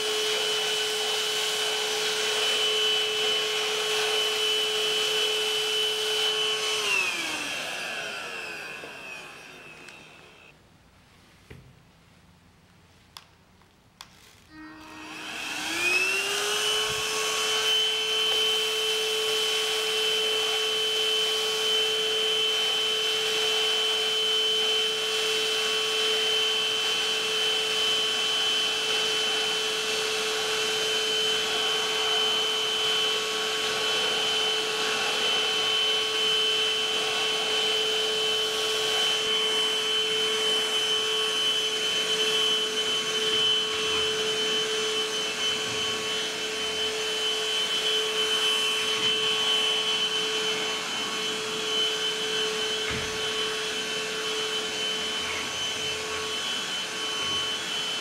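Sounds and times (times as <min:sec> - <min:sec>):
handheld vacuum cleaner whine: 0:00.0 - 0:10.6, 0:14.4 - 0:58.0.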